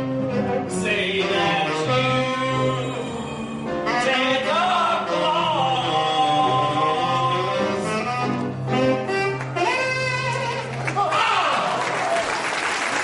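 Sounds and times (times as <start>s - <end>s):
band playing instrumental music: 0.0s - 11.1s.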